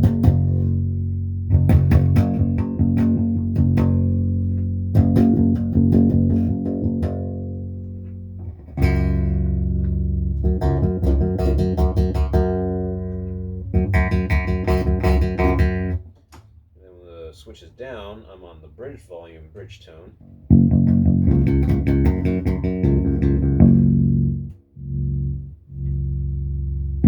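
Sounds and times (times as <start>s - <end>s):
electric bass plucked notes: 0.0s - 16.0s, 20.3s - 27.0s.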